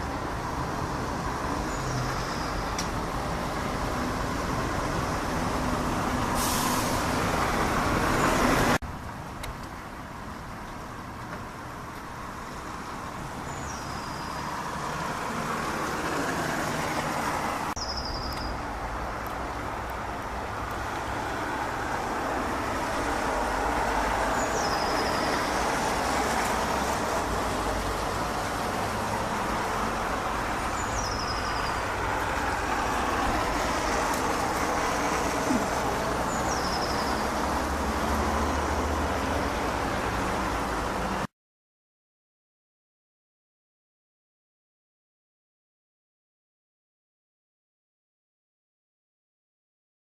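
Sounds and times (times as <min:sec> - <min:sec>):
distant engines roaring: 0:00.0 - 0:41.3.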